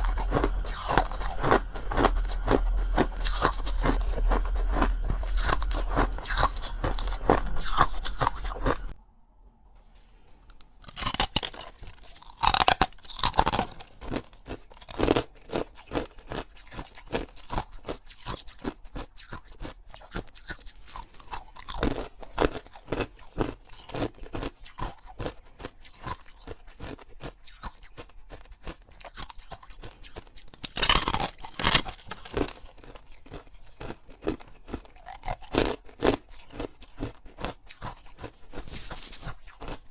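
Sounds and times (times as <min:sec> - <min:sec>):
crunchy biting and chewing: 0:00.0 - 0:09.0, 0:10.8 - 0:39.9.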